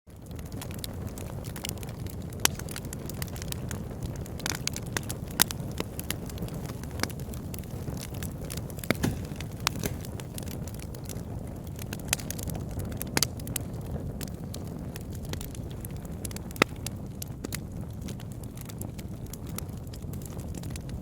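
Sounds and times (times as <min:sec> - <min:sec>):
fire burning with crackles: 0:00.1 - 0:21.0.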